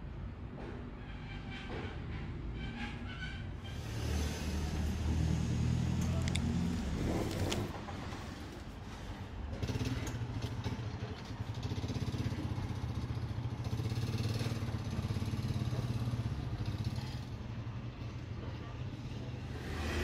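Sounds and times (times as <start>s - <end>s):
street background noise: 0.0s - 20.0s.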